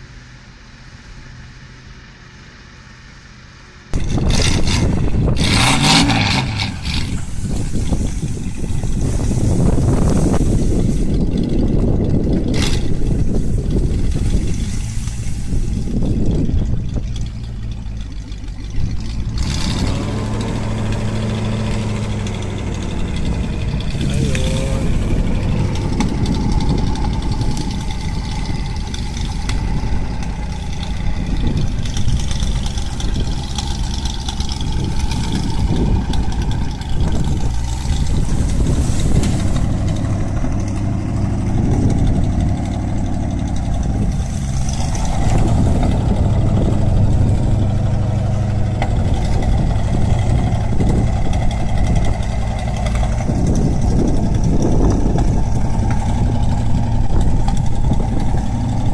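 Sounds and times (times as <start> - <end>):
engine running at low speed: 0.0 - 58.9.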